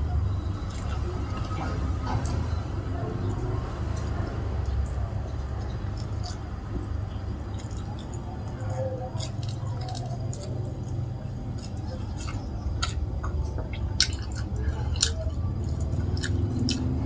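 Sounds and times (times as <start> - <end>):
person chewing with wet smacking: 0.0 - 17.0
steady low hum: 0.0 - 17.0
sharp mouth clicks: 0.6 - 17.0.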